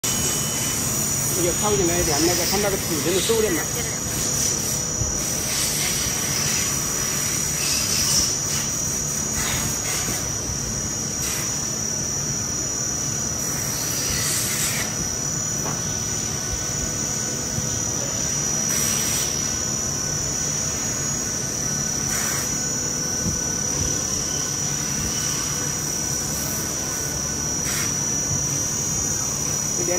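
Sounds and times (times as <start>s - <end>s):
high-pitched machine whine: 0.0s - 29.9s.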